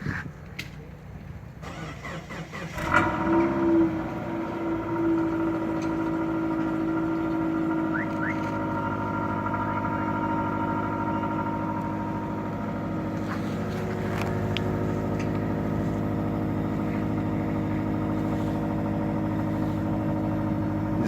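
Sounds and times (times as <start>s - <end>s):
car engine idling: 0.3s - 21.0s.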